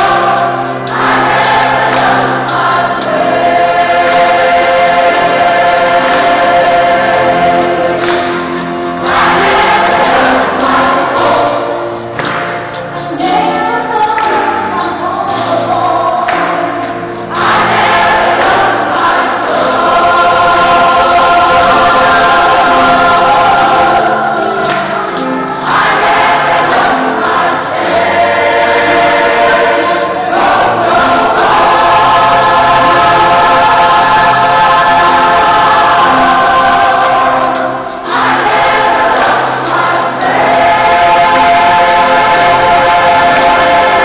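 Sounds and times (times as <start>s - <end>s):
large choir singing: 0.0s - 44.0s.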